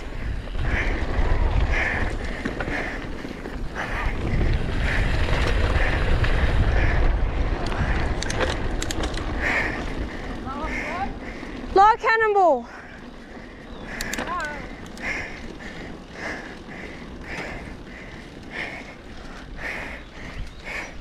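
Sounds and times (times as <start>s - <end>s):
tyres rumbling over dirt: 0.0s - 20.8s
wind buffeting microphone: 0.0s - 21.0s
bike rattling clicks: 0.1s - 11.8s, 12.8s - 21.0s.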